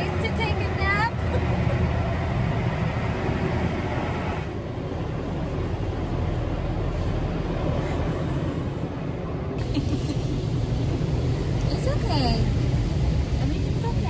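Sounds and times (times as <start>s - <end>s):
car wash low rumble: 0.0s - 14.0s
car wash rushing hiss: 0.0s - 14.0s.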